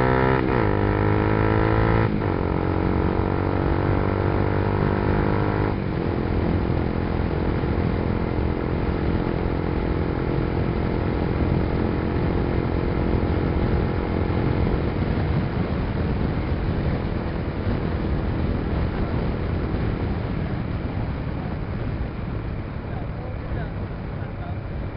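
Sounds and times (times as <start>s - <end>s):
motorcycle engine at speed: 0.0s - 24.9s.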